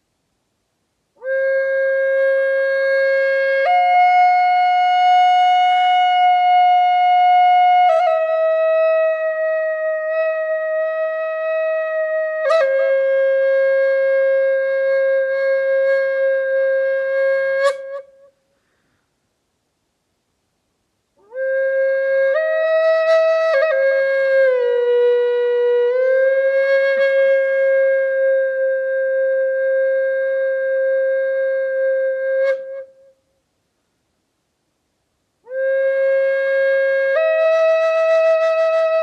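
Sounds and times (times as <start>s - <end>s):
flute playing long notes: 1.2s - 18.4s, 21.2s - 33.2s, 35.4s - 39.0s.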